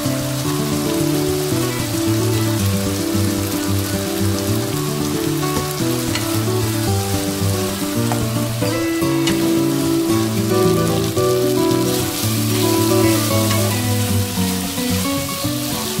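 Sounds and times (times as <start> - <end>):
background music: 0.0 - 16.0
chicken sizzling in a pan: 0.0 - 16.0.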